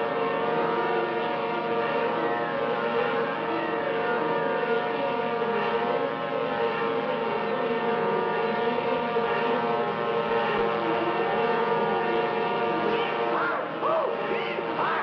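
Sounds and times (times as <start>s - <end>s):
whining plane dive drone: 0.0s - 15.0s.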